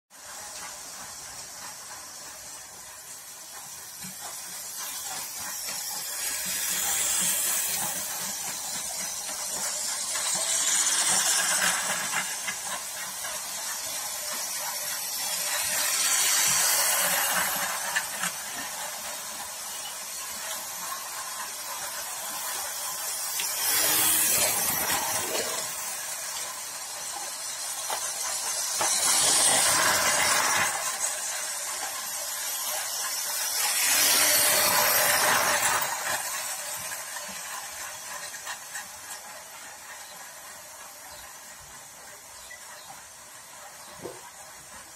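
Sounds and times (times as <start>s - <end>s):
toy trains whirring: 0.1s - 44.9s.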